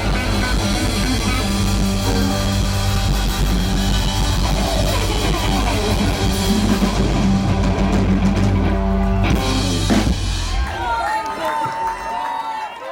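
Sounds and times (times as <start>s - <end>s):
bass guitar: 0.0s - 11.2s
drum kit: 0.0s - 11.2s
electric guitar: 0.0s - 11.2s.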